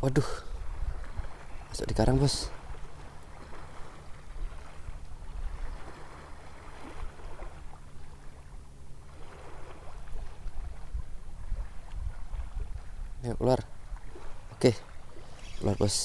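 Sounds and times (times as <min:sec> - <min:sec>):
wind and water hiss: 0:00.0 - 0:16.0.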